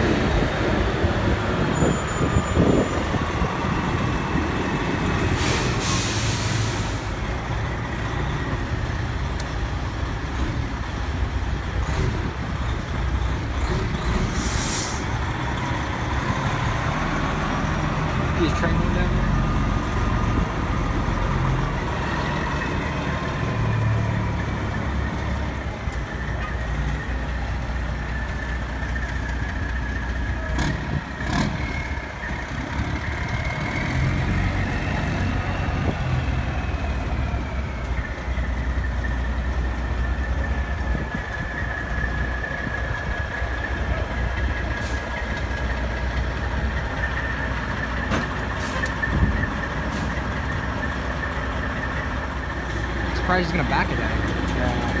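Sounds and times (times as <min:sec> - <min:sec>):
diesel trucks idling: 0:00.0 - 0:55.0.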